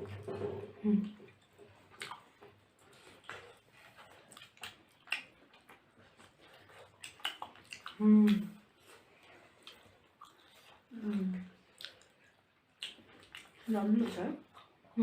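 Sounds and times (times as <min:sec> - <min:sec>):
wet chewing smacks: 0:01.0 - 0:15.0.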